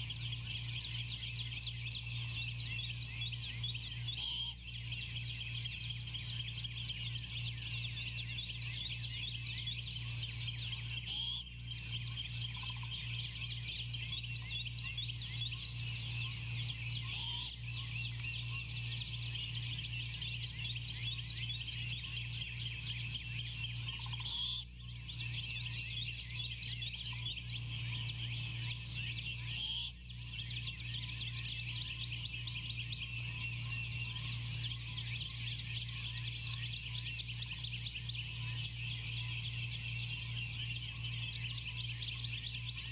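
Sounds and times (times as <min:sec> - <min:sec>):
songbirds chirping and singing: 0:00.0 - 0:42.9
steady low hum: 0:00.0 - 0:42.9.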